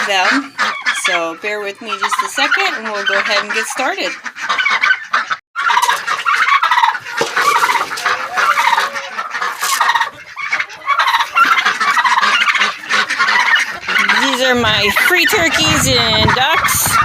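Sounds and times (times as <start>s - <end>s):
turkeys gobbling: 0.0s - 17.0s.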